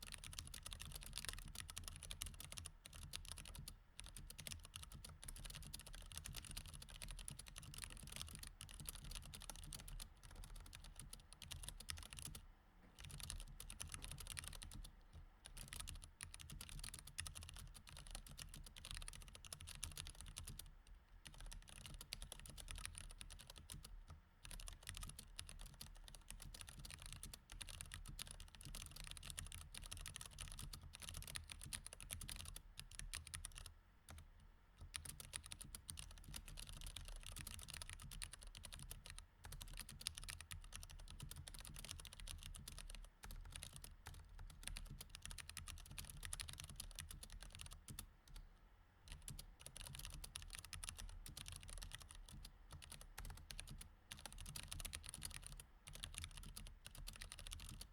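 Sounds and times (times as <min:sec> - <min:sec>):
mechanical keyboard typing: 0:00.0 - 0:12.4, 0:13.0 - 0:34.2, 0:34.8 - 0:48.4, 0:49.1 - 0:57.9.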